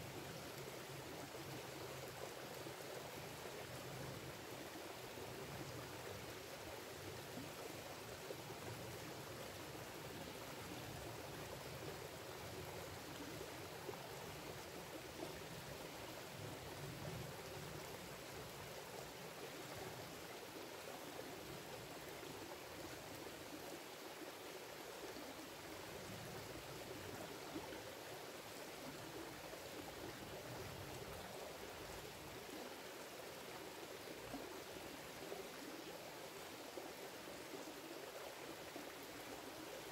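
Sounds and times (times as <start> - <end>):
creek running over stones: 0.0 - 39.9.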